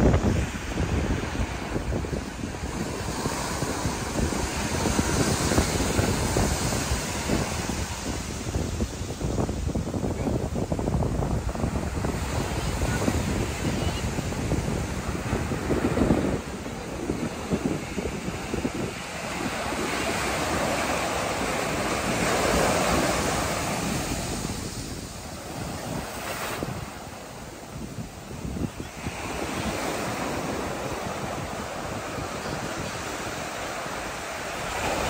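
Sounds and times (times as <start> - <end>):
sea waves breaking: 0.0 - 35.0
wind rumbling on microphone: 0.0 - 35.0.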